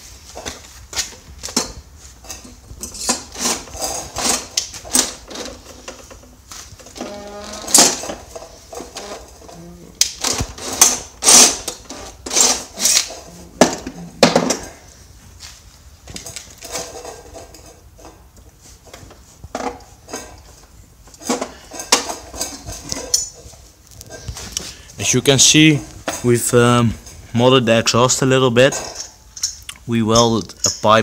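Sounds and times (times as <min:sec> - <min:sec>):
metal parts clanking: 0:00.3 - 0:14.9, 0:16.1 - 0:18.2, 0:18.9 - 0:24.5, 0:27.9 - 0:31.0.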